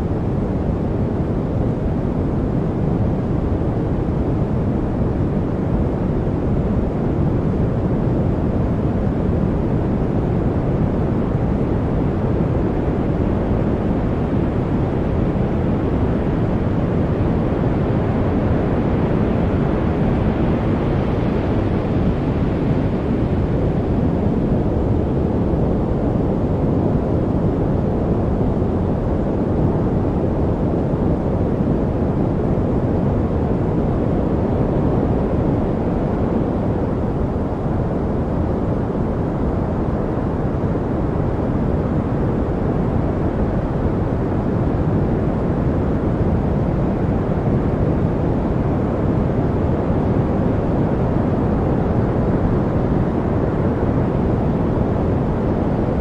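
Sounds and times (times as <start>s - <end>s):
deep white noise rumble: 0.0s - 56.0s.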